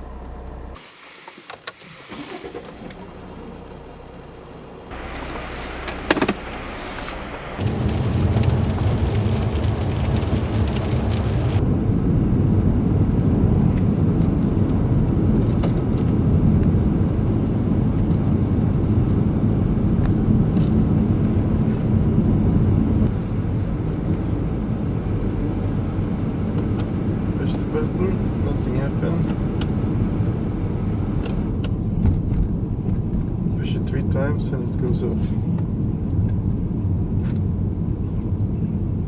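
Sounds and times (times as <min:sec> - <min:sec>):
car cabin engine and road rumble: 0:00.0 - 0:39.0.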